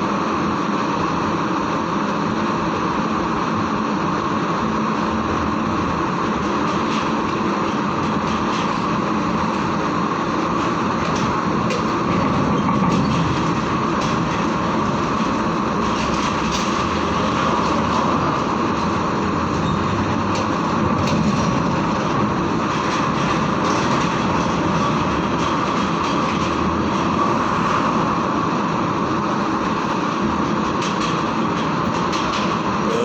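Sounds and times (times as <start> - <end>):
heavy diesel trucks rumbling: 0.1 - 33.0.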